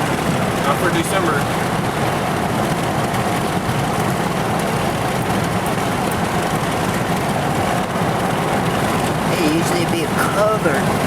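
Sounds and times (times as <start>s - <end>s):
road noise inside vehicle: 0.0s - 11.0s
vehicle engine running: 0.0s - 11.0s.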